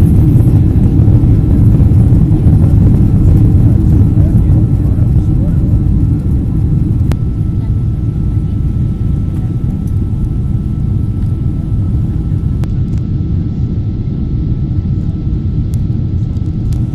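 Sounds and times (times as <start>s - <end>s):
airplane cabin engine rumble: 0.0s - 16.9s
faint steady whine: 0.0s - 16.9s.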